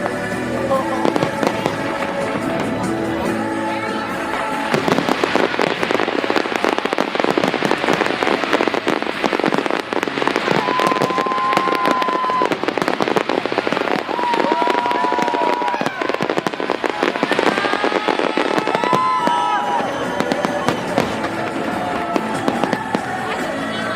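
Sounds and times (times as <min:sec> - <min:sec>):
fireworks crackling and popping: 0:00.0 - 0:23.9
high firework whistle: 0:04.2 - 0:23.5.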